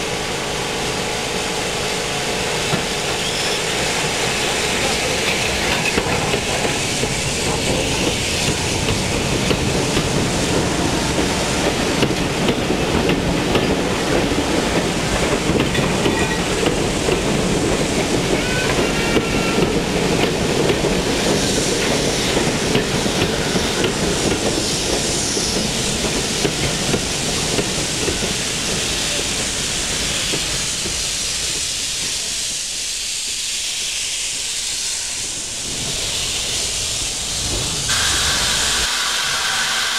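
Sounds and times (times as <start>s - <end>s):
steam hissing: 0.0s - 39.9s
train wheels rumbling and clattering: 0.0s - 39.9s.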